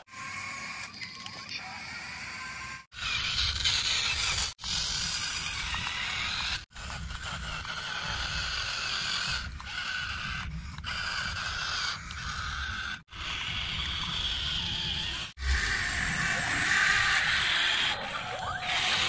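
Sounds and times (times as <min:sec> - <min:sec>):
toy electric motors whirring: 0:00.0 - 0:19.0.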